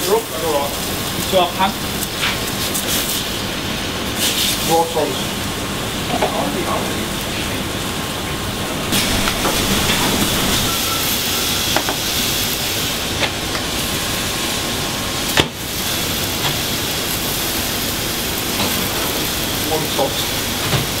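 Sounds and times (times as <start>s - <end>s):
meat sizzling in frying pan: 0.0s - 6.1s, 8.9s - 21.0s.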